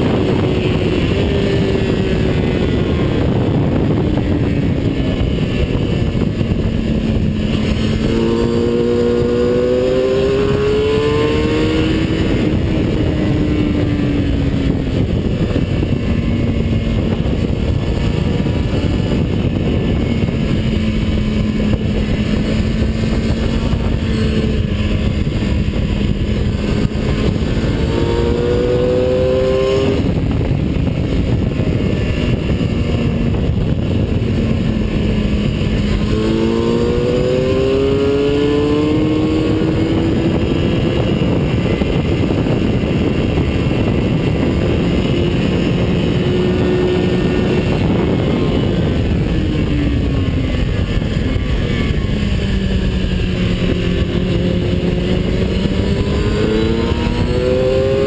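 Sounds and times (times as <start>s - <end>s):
heavy wind noise: 0.0s - 58.0s
loud race car engine: 0.0s - 58.0s
road rumble: 0.0s - 58.0s.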